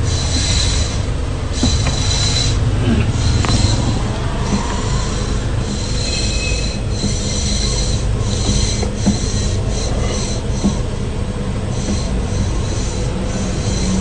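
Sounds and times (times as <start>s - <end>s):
car engine humming: 0.0s - 14.0s
power steering whining: 0.0s - 14.0s.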